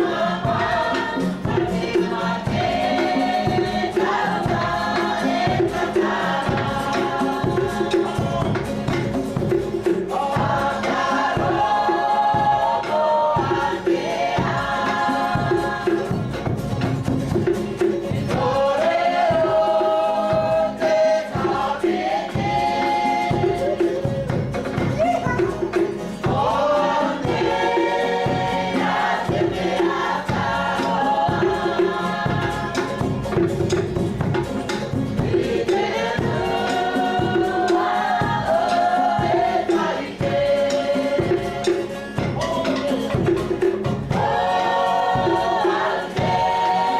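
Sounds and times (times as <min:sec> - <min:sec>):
choir singing over a beat: 0:00.0 - 0:46.9.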